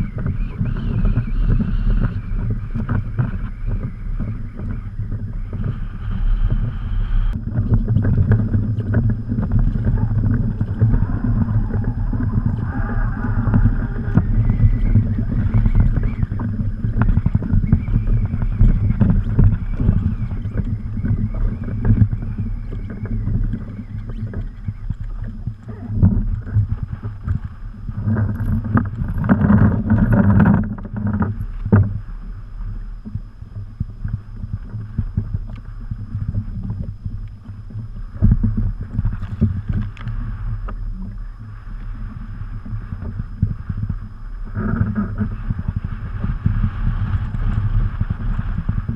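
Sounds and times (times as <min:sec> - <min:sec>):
water slapping kayak hull: 0:00.0 - 0:48.9
wind buffeting microphone: 0:00.0 - 0:48.9.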